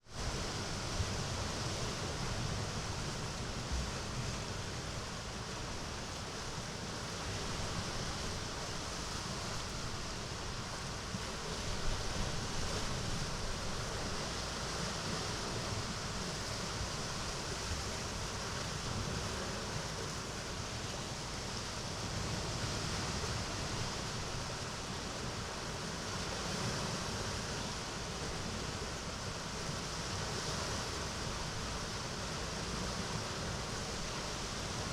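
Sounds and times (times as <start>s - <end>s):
sea waves washing in: 0.0s - 34.9s.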